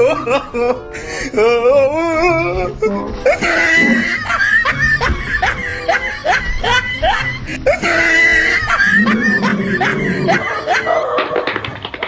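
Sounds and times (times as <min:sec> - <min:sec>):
person laughing: 0:00.0 - 0:11.6
background music: 0:00.0 - 0:12.0.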